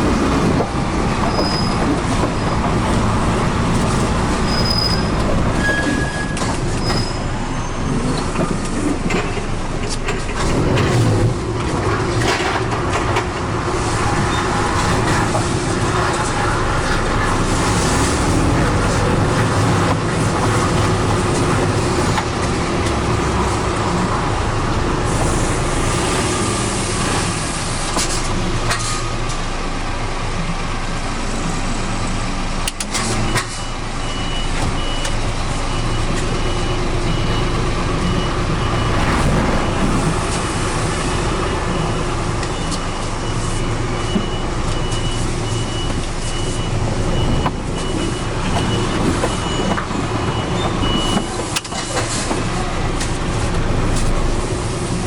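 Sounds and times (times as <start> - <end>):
truck diesel engine running: 0.0 - 55.0.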